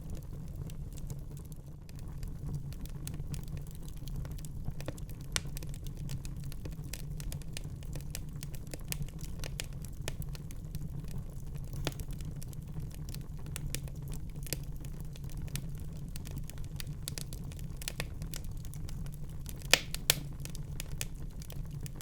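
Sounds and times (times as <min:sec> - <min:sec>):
fireplace fire crackling and popping: 0:00.0 - 0:22.0.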